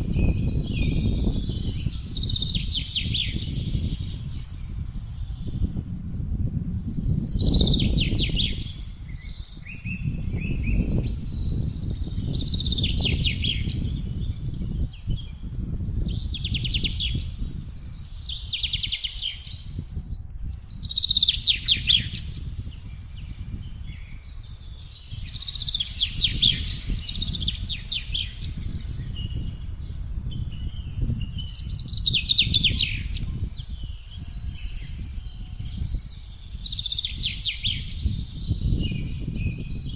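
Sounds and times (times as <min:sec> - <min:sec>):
songbirds trilling: 0:00.0 - 0:39.9
wind gusting: 0:00.0 - 0:39.9.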